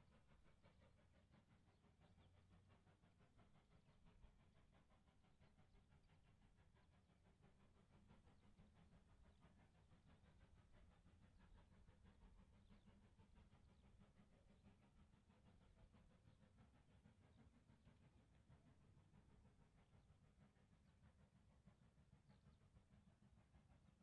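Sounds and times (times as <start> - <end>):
distant steam locomotive chuffing: 0.0 - 24.0.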